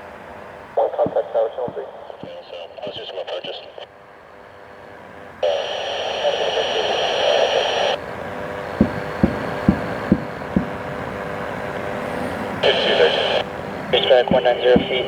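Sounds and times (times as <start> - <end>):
radio static hiss: 0.8 - 3.9, 5.4 - 15.0.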